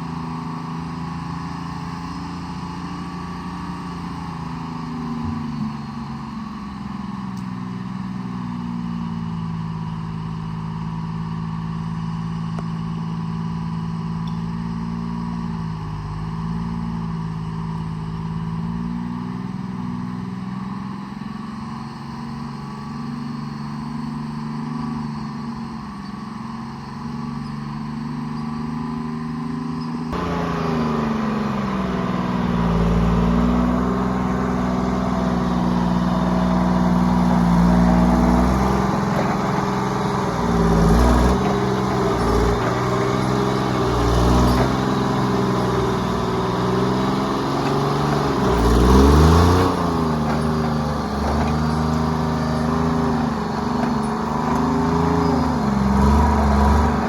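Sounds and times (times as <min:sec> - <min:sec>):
diesel engine running: 0:00.0 - 0:20.4, 0:21.1 - 0:24.5, 0:25.1 - 0:57.0.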